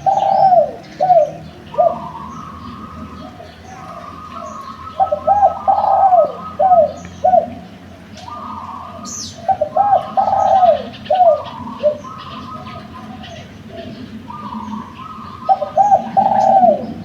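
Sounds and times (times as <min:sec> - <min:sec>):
dove cooing: 0:00.0 - 0:17.0.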